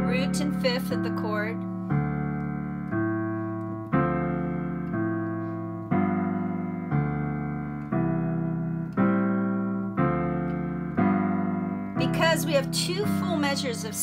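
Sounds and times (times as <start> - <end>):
digital piano jazz chords: 0.0 - 14.0.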